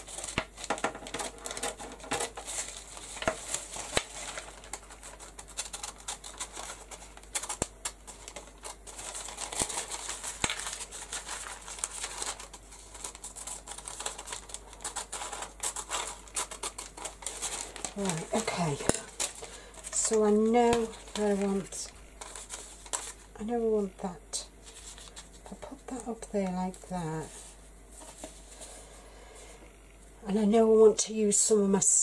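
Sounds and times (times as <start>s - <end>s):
rice paper rustling and crinkling: 0.0s - 29.6s.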